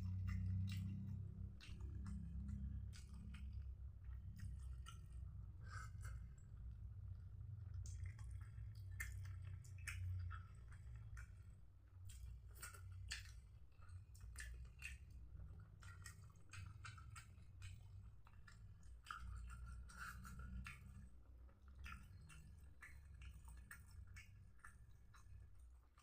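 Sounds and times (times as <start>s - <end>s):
low hum: 0.0s - 26.0s
person chewing food: 0.0s - 26.0s.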